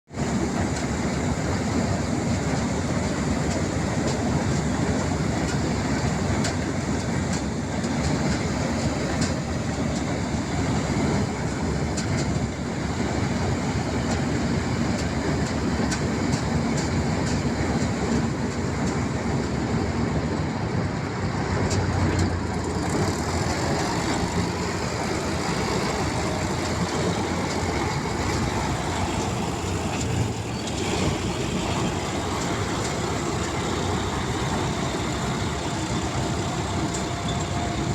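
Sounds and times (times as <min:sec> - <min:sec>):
harvesting machine drone: 0:00.1 - 0:37.9.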